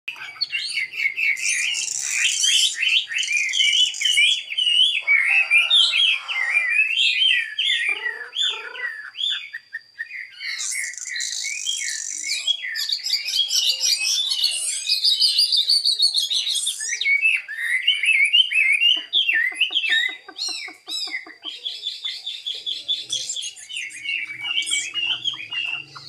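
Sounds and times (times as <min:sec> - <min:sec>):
bird singing whistled phrases: 0:00.1 - 0:26.0.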